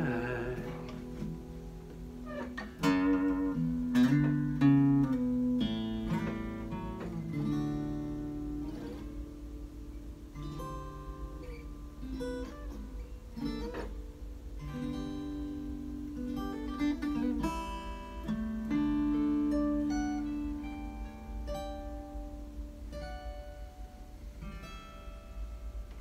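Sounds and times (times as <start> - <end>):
fingerstyle acoustic guitar: 0.0 - 26.0.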